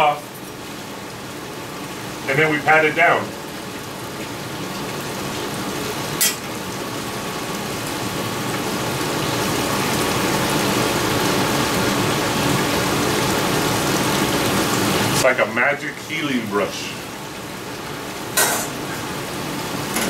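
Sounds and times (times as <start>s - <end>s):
batter sizzling on a griddle: 0.2s - 20.0s.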